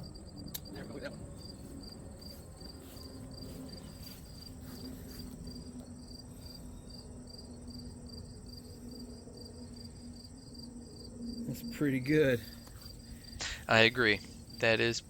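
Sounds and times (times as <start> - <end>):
crickets chirping: 0.0 - 15.0
high insect trill: 0.0 - 15.0.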